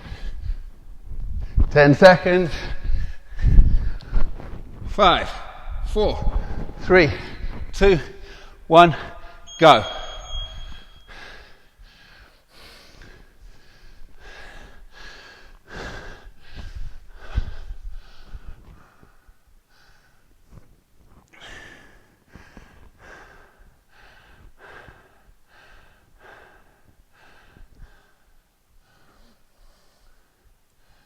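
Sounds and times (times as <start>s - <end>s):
man breathing hard: 0.0s - 1.7s, 2.5s - 4.5s, 5.5s - 20.3s, 21.3s - 31.0s.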